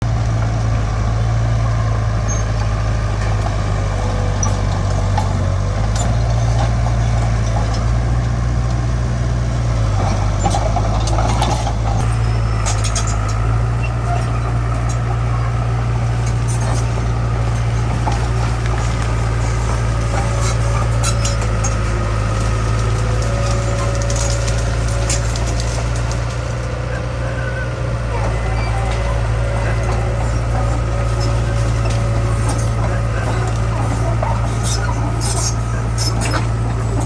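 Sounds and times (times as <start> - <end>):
diesel engine droning: 0.0 - 37.0.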